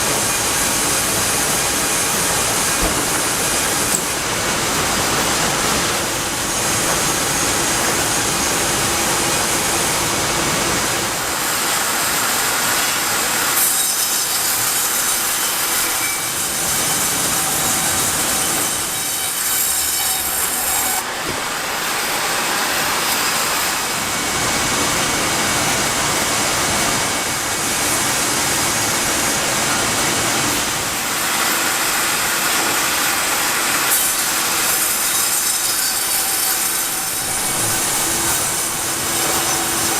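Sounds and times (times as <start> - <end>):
sawmill machinery sawing wood: 0.0 - 39.9.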